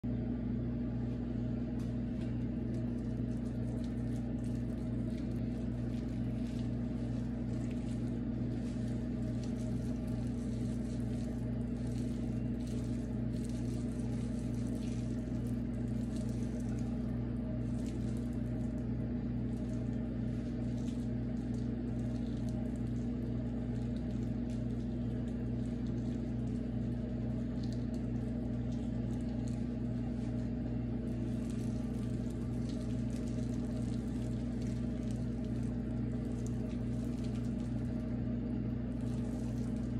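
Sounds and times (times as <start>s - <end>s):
kitchen appliance humming: 0.0s - 39.9s.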